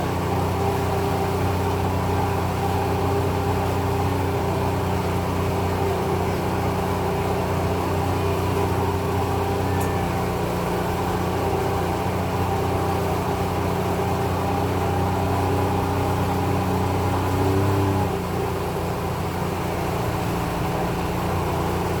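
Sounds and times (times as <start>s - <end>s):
engine droning hum: 0.0s - 22.0s.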